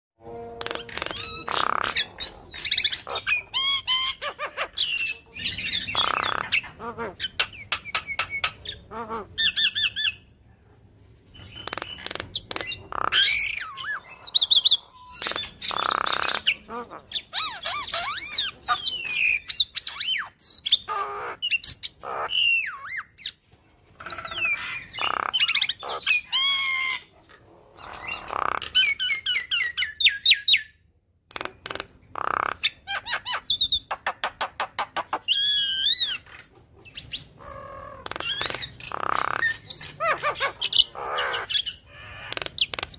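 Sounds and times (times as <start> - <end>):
bird chattering song: 0.6 - 10.3, 11.3 - 23.4, 24.0 - 42.9.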